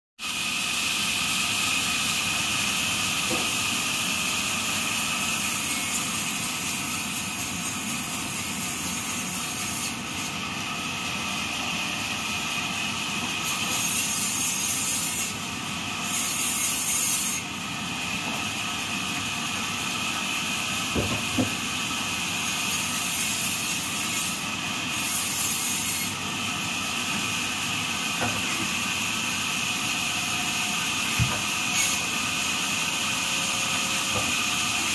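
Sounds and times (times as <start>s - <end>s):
grinding wheel on saw blade: 0.9s - 11.8s, 12.6s - 34.9s.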